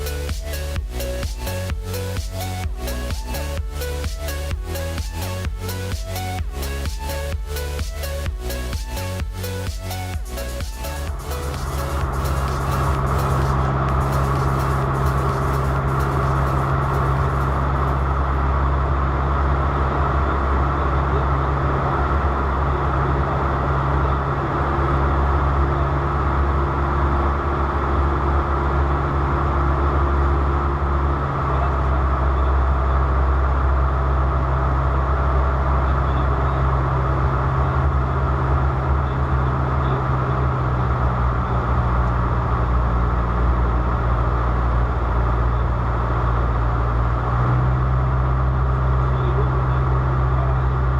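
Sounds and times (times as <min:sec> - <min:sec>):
aircraft cabin drone: 0:00.0 - 0:50.9.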